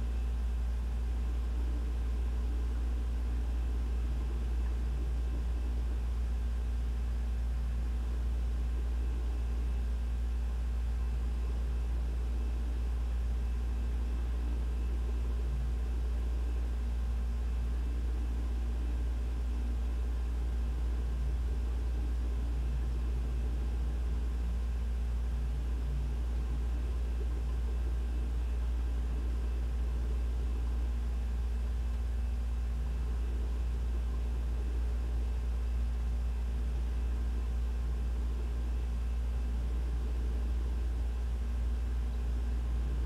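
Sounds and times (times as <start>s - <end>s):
faint even hum: 0.0s - 43.0s
ventilation low rumble: 0.0s - 43.0s.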